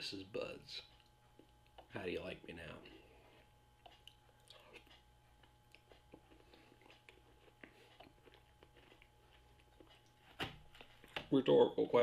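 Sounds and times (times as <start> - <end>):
faint chewing: 0.8 - 11.3.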